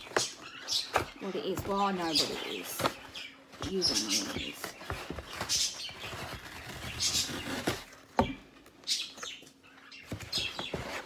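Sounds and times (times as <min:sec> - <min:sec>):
packaging rustling and crinkling: 0:00.0 - 0:08.7, 0:09.9 - 0:11.0.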